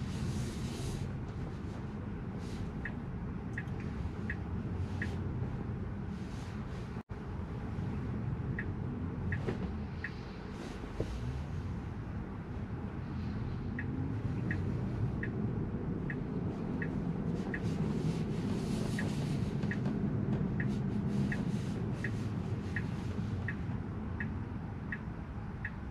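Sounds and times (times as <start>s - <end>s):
car rolling rumble: 0.0s - 25.9s
turn signal ticking: 0.3s - 25.9s.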